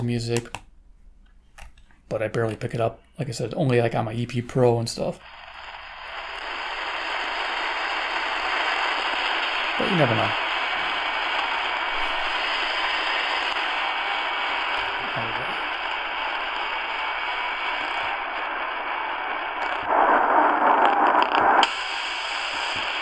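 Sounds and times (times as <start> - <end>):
radio static hiss: 2.1 - 23.0.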